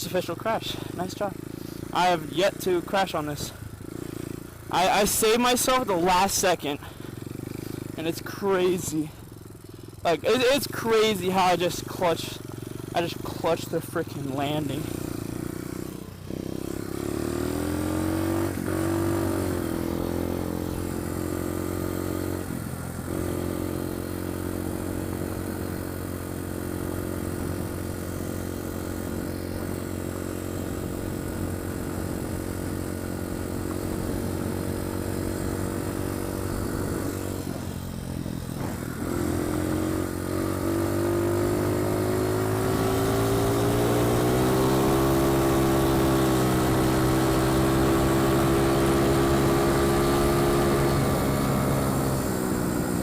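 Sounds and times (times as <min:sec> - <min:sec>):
pit bike engine under throttle: 0:00.0 - 0:53.0.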